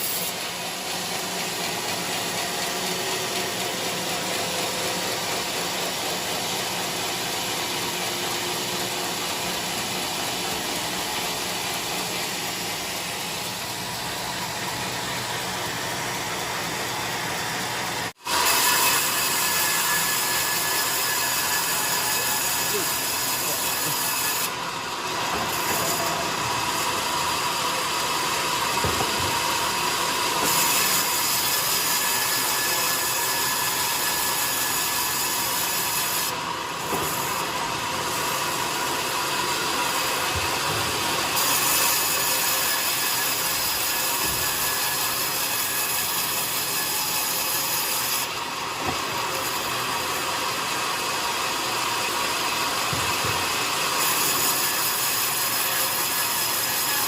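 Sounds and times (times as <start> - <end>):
sawmill saw cutting wood: 0.0 - 57.0.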